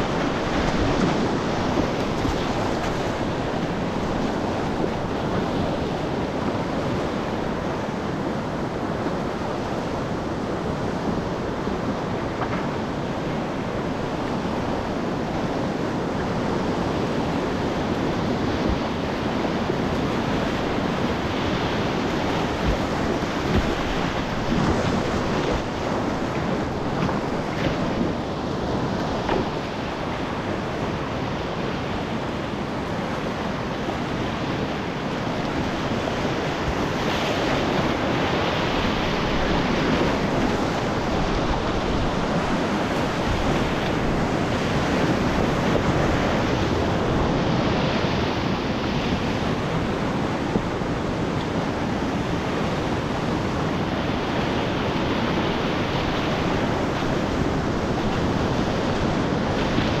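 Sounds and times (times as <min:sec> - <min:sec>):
churning river rapids: 0:00.0 - 1:00.0.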